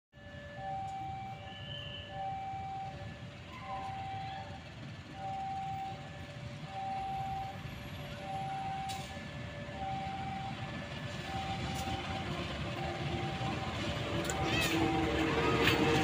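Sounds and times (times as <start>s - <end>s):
diesel locomotive rumble: 0.2s - 16.0s
level crossing two-tone alarm: 0.2s - 16.0s.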